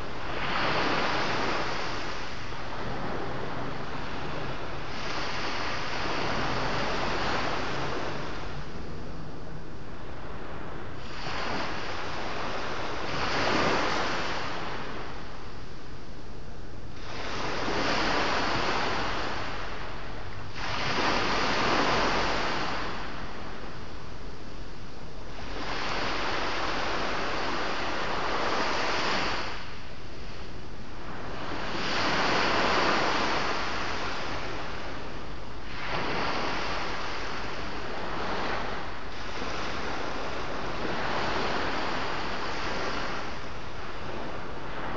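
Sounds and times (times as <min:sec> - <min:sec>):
waves breaking on shore: 0:00.0 - 0:44.9
wind on microphone: 0:00.0 - 0:44.9.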